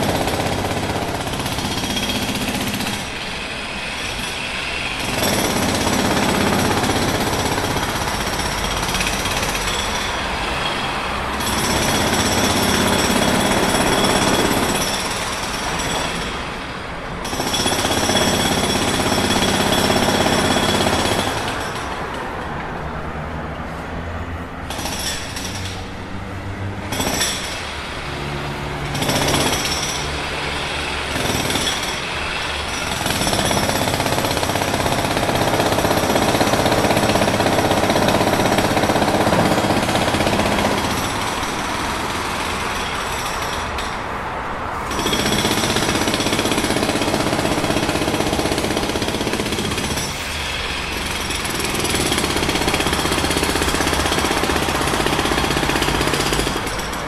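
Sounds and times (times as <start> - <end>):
jackhammer hammering: 0.0 - 22.4, 24.7 - 26.0, 26.8 - 44.0, 44.9 - 57.0.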